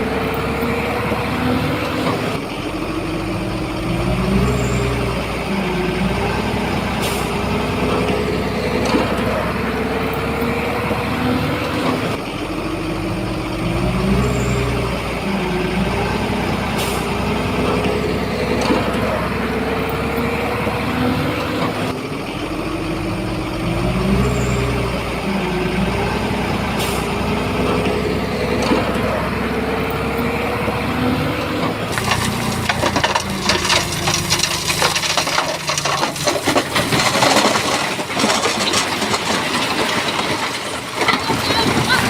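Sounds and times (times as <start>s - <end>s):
diesel earthmoving machinery: 0.0s - 42.0s.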